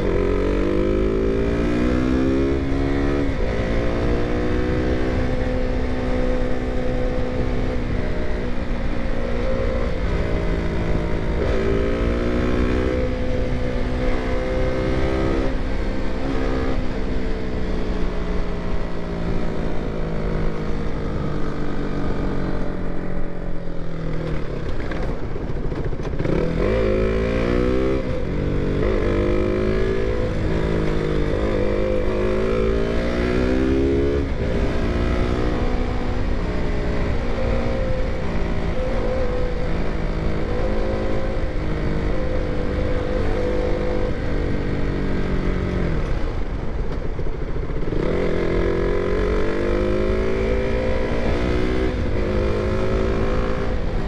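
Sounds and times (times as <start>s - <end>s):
motorcycle engine revving: 0.0s - 18.5s, 25.7s - 54.0s.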